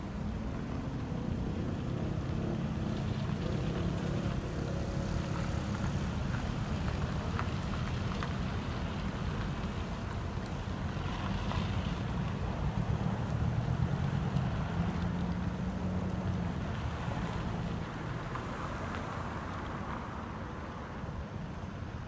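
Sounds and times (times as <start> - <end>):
road traffic rumbling: 0.0 - 22.0.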